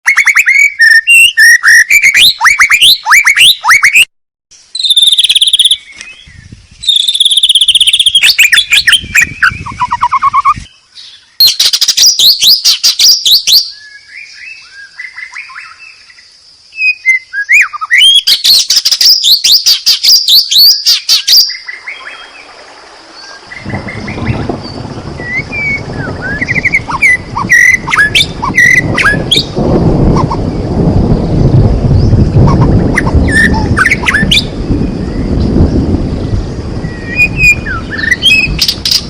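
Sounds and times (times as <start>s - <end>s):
bird singing varied song: 0.1s - 39.0s.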